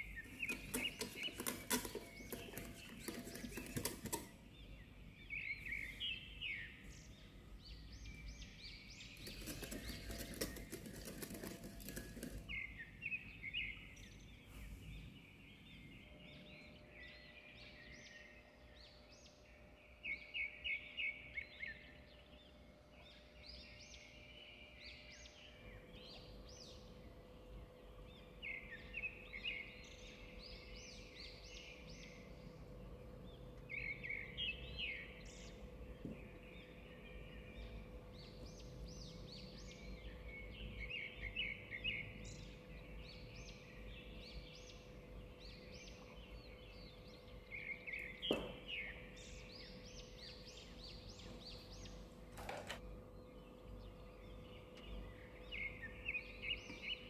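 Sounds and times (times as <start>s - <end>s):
birds chirping and trilling: 0.0s - 57.0s
faint steady hum: 0.0s - 57.0s.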